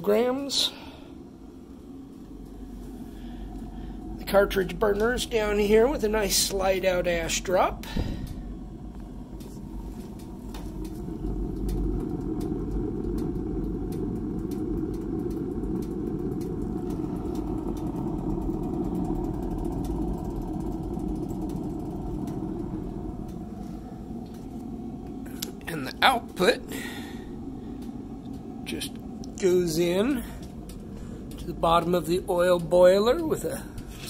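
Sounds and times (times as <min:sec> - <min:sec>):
burning pellets crackling: 0:00.0 - 0:34.0
pellet fire and fan rushing: 0:00.0 - 0:34.0.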